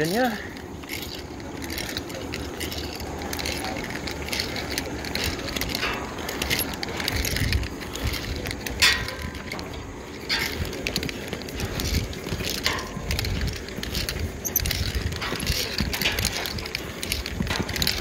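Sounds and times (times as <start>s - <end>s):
metal climbing gear clinking: 0.0s - 18.0s.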